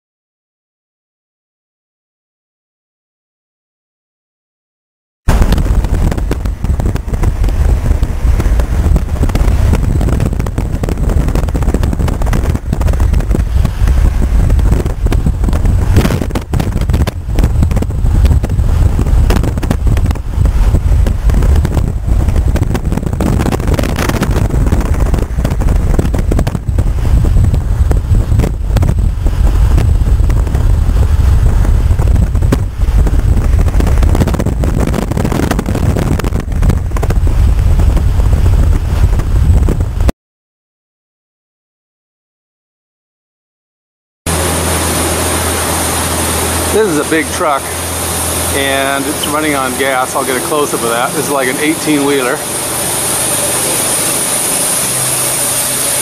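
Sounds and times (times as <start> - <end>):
car road noise: 5.3 - 40.1, 44.3 - 56.0
wind buffeting microphone: 5.3 - 40.1, 44.3 - 56.0.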